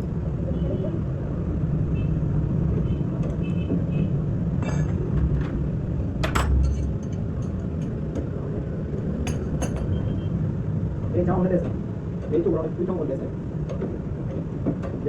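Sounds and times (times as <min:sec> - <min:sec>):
low mechanical rumble: 0:00.0 - 0:14.8.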